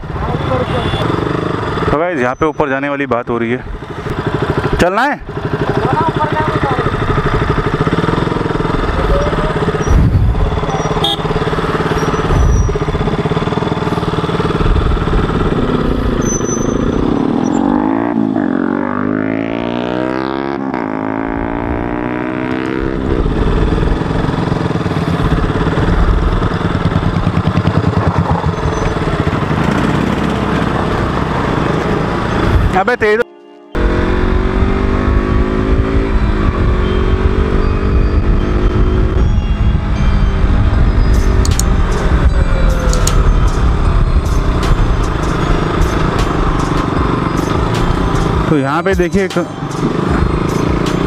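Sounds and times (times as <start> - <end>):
motorcycle engine running: 0.0 - 32.8, 33.8 - 51.0.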